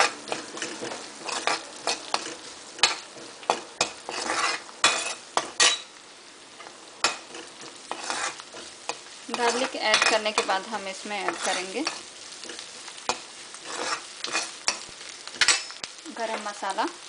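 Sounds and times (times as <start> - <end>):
spoon clacking and scraping wok: 0.0 - 6.0, 6.6 - 16.6
onions sizzling in oil: 0.0 - 17.0.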